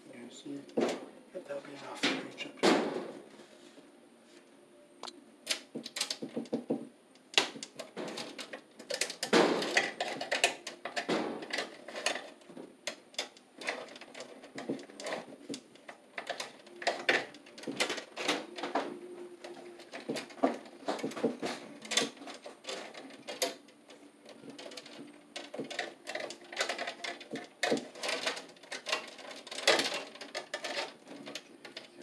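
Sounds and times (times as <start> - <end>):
wires clicking and scraping in metal panel: 5.4 - 32.0.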